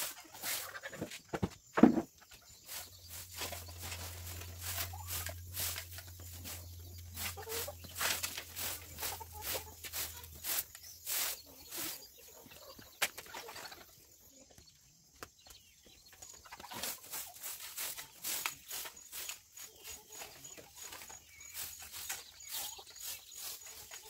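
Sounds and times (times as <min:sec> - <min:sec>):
broom sweeping floor: 0:00.0 - 0:13.5, 0:16.5 - 0:24.0
chickens clucking: 0:00.0 - 0:24.0.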